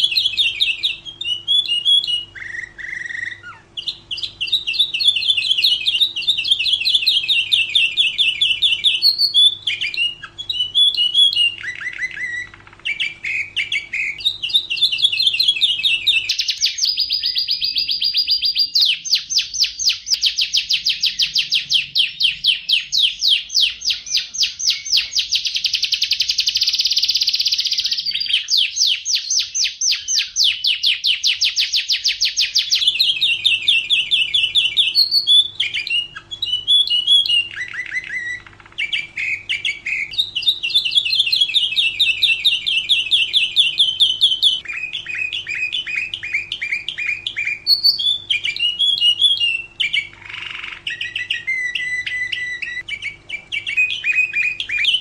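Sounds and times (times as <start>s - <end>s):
canary singing rapid trills: 0.0s - 55.0s.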